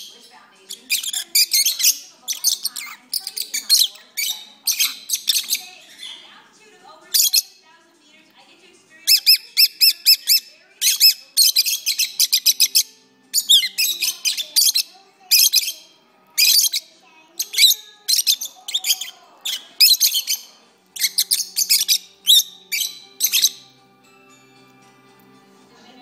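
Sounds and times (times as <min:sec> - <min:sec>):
lovebirds chirping and twittering: 0:00.0 - 0:26.0.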